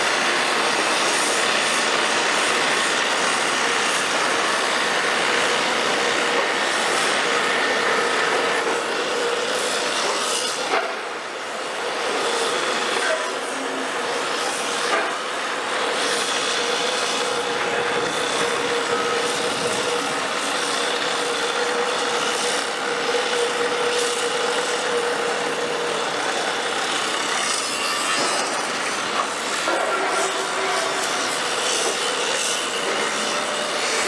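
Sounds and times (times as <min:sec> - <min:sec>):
crane drive whine: 0:00.0 - 0:34.0
steel wheels grinding on rails: 0:00.0 - 0:34.0.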